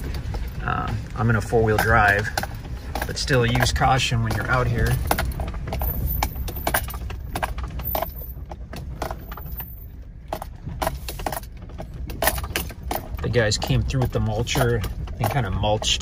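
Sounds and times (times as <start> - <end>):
tyres rattling over wood mulch: 0.0 - 16.0
vehicle engine rumble: 0.0 - 16.0.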